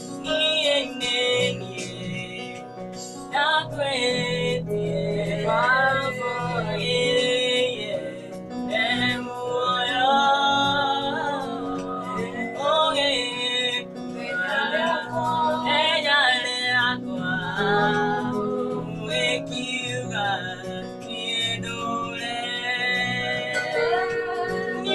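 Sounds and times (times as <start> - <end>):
electronic keyboard chords: 0.0 - 24.9
man and women singing: 0.0 - 24.9.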